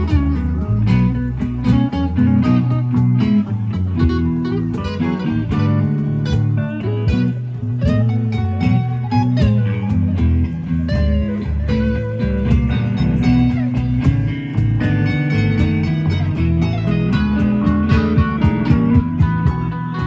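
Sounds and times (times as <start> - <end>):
bass guitar: 0.0 - 20.0
drums and cymbals: 0.0 - 20.0
electric guitars: 0.0 - 20.0.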